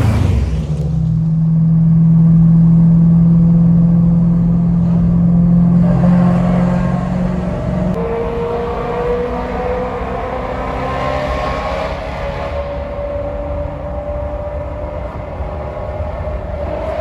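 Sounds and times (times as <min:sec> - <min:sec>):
car engine at steady revs: 0:00.0 - 0:17.0.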